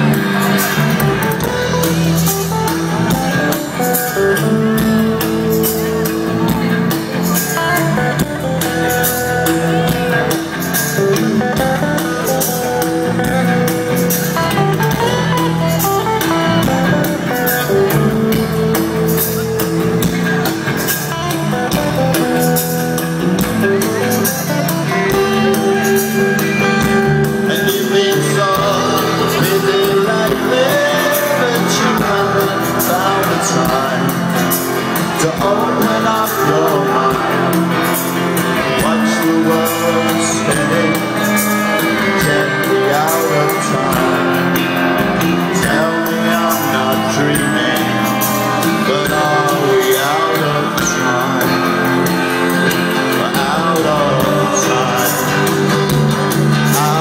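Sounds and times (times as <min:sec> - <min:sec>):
drums: 0:00.0 - 0:57.0
electric guitars: 0:00.0 - 0:57.0
lead vocal: 0:00.0 - 0:57.0.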